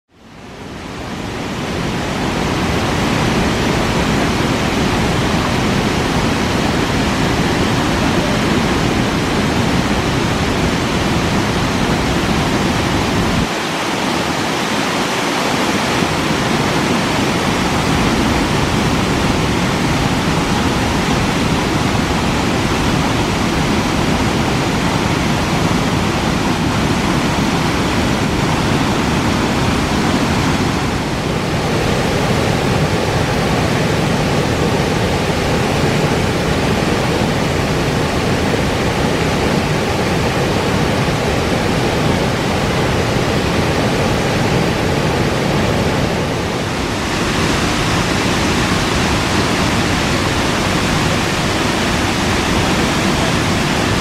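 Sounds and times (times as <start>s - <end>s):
waterfall rushing into pool: 0.1s - 54.0s.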